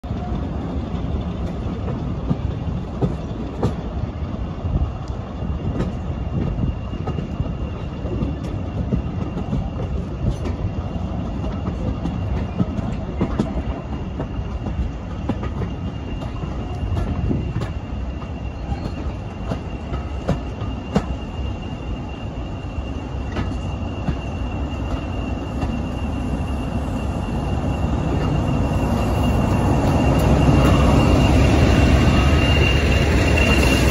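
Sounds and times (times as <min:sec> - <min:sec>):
train rumble: 0:00.0 - 0:33.9
high wheel squeal: 0:04.2 - 0:33.9.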